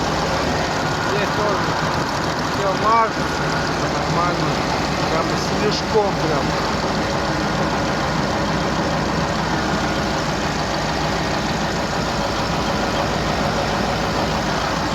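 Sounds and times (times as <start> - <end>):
tractor diesel engine idling: 0.0 - 14.9.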